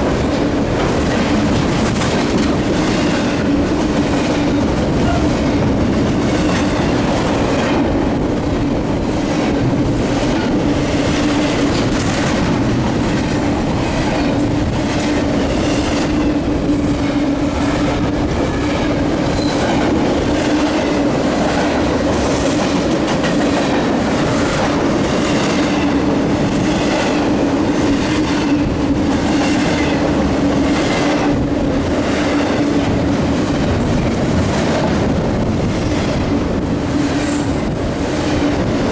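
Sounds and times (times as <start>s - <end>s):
freight train rumble: 0.0s - 38.9s
train wheels clicking over rail joints: 0.0s - 38.9s.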